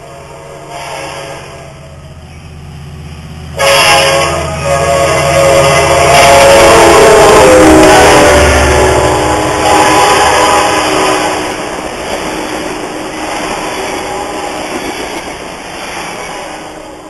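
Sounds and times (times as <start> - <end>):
train cars rolling on rails: 0.0 - 17.0.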